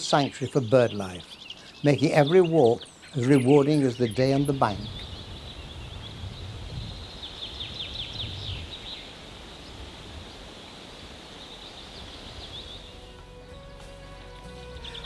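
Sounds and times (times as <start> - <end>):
outdoor background noise: 0.0 - 15.0
songbird singing: 0.0 - 15.0.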